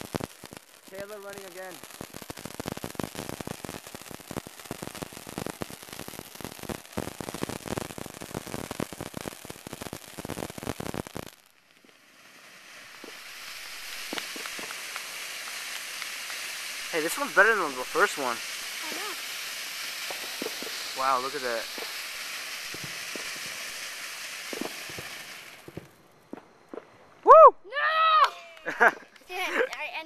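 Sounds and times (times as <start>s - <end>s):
firework hissing: 0.0s - 26.2s, 27.9s - 30.0s
firework pops: 0.0s - 27.0s
firework crackling: 0.0s - 30.0s.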